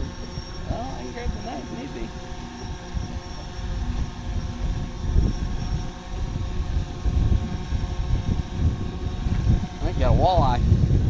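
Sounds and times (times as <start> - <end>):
faint motor hum: 0.0 - 11.0
wind buffeting microphone: 0.0 - 11.0.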